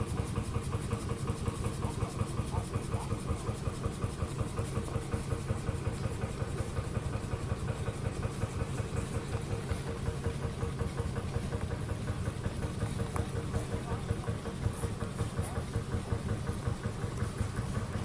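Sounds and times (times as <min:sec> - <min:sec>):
vintage engine running: 0:00.0 - 0:18.0.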